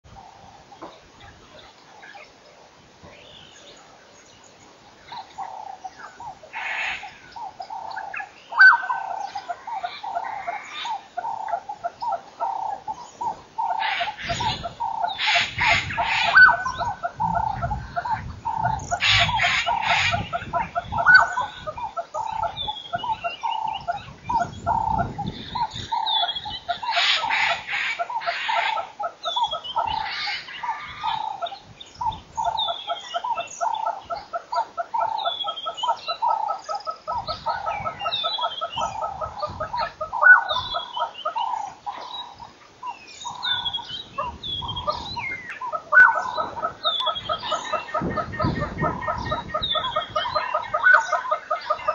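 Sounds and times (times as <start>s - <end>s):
flock of birds chattering: 0.1s - 51.9s
harsh cackling bird calls: 5.1s - 51.9s.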